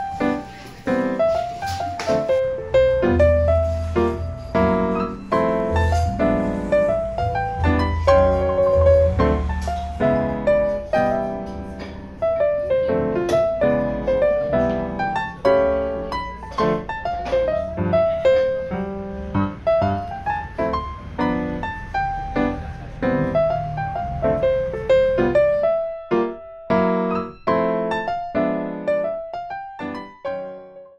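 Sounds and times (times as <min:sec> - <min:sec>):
piano music: 0:00.0 - 0:30.9.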